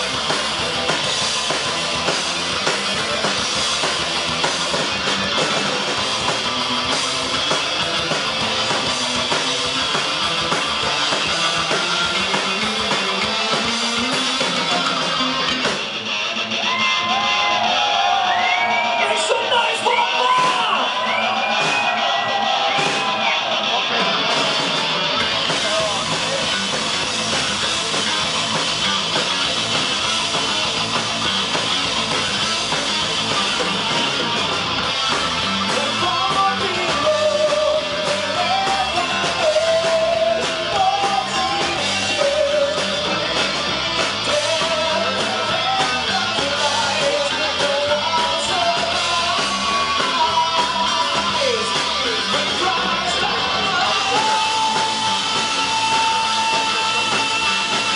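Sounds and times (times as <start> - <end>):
heavy metal band playing live: 0.0 - 57.9.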